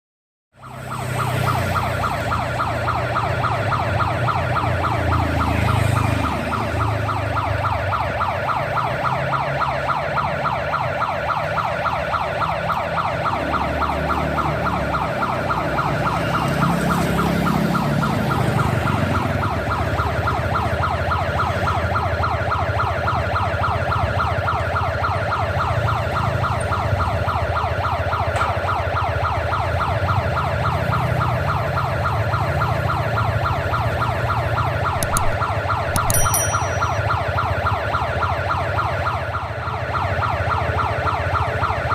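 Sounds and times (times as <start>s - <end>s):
low rumble of road traffic: 0.6s - 41.9s
warbling level crossing siren: 0.6s - 41.9s.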